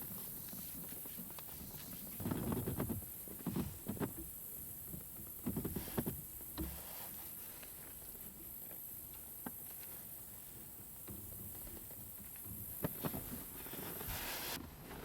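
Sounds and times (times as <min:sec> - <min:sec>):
light knocks and taps of gear: 0:00.0 - 0:14.0.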